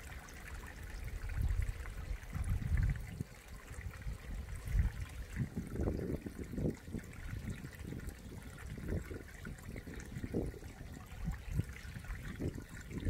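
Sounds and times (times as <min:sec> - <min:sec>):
stream water trickling over rock: 0:00.0 - 0:13.0
water gurgles and plops: 0:00.0 - 0:13.0.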